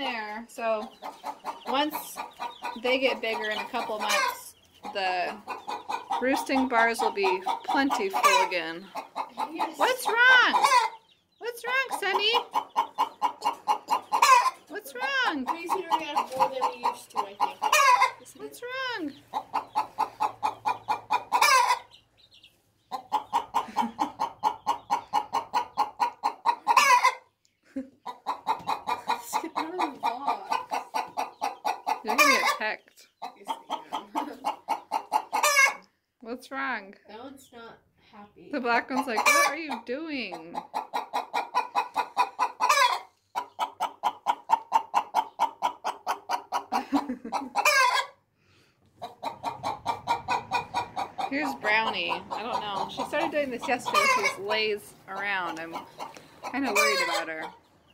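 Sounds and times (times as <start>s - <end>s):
hen cackling: 0.0s - 35.9s, 38.6s - 48.3s, 49.0s - 57.7s.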